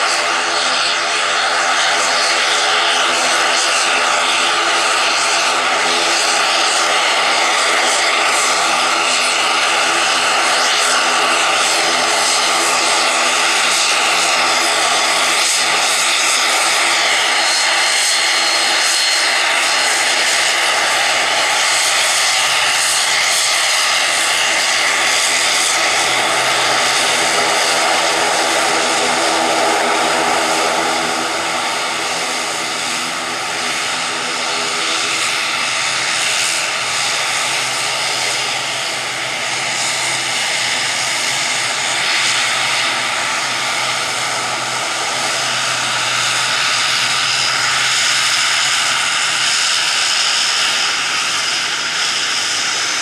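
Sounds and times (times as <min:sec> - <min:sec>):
propeller drone: 0:00.0 - 0:53.0
turboprop engines whining: 0:00.0 - 0:53.0.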